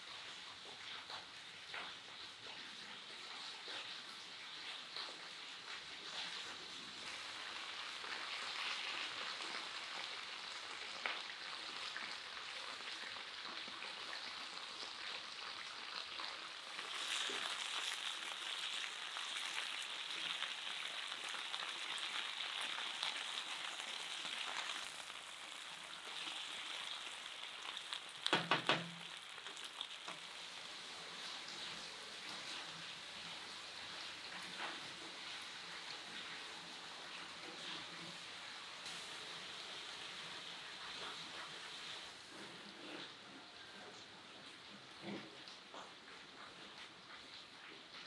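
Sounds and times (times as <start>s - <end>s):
potatoes sizzling in a pan: 0.0s - 43.2s.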